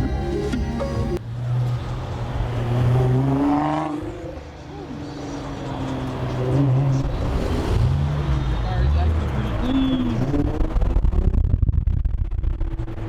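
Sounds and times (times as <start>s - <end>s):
vehicle engines in traffic: 0.0s - 13.0s.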